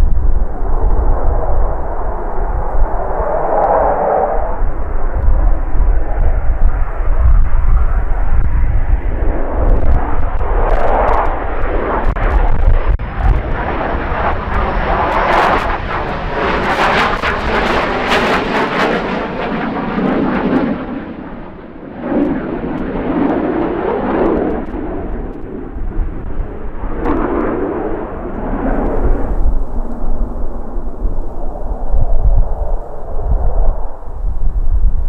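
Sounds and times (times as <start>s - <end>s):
jet passing low overhead: 0.0s - 35.0s.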